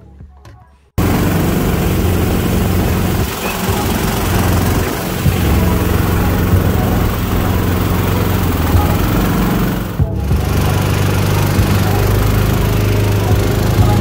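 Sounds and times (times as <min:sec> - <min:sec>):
small gas engine running: 0:01.0 - 0:14.0.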